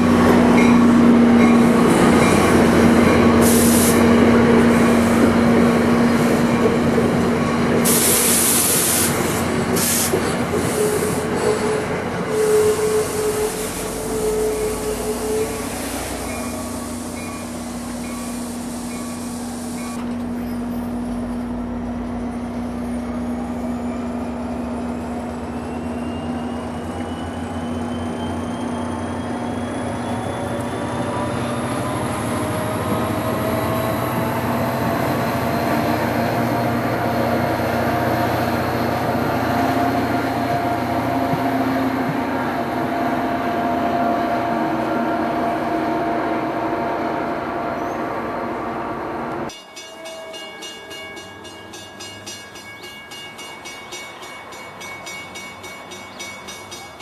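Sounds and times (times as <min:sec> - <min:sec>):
train wheels rumbling on rails: 0:00.0 - 0:46.7
locomotive whine: 0:00.0 - 0:57.0.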